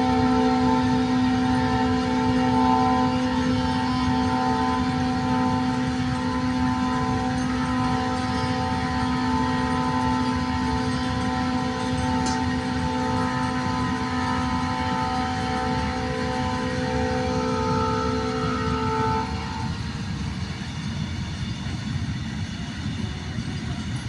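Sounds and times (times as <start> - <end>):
locomotive humming and rumbling: 0.0 - 24.0.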